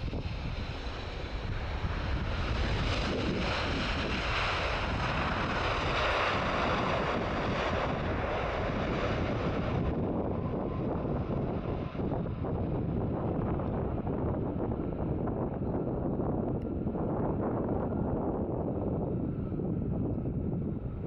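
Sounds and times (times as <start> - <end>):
jet engines in reverse thrust: 0.0 - 21.0
wind rumble on microphone: 0.0 - 21.0.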